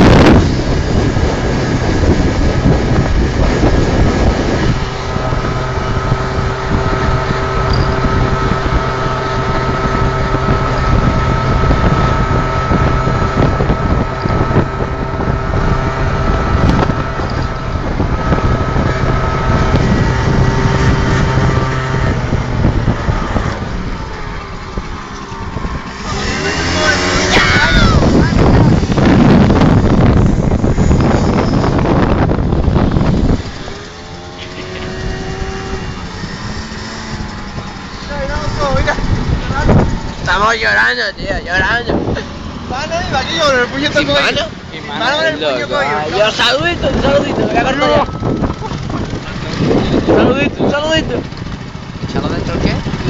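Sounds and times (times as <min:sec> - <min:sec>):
motorcycle engine running: 0:00.0 - 0:53.0
wind rushing over microphone: 0:00.0 - 0:53.0.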